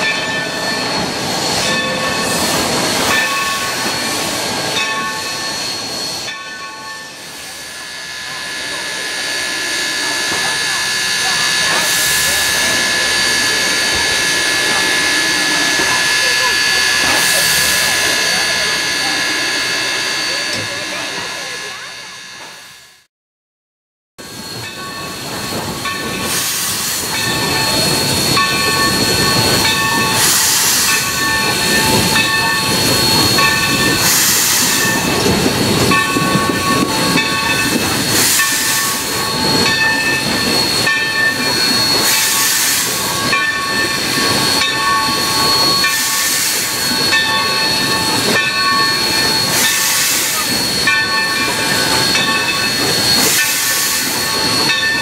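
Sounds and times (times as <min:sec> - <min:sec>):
steam hiss: 0:00.0 - 0:22.2, 0:24.2 - 0:55.0
steam exhaust rush: 0:00.0 - 0:22.8, 0:24.2 - 0:55.0
steady high tones: 0:00.0 - 0:23.0, 0:24.3 - 0:55.0.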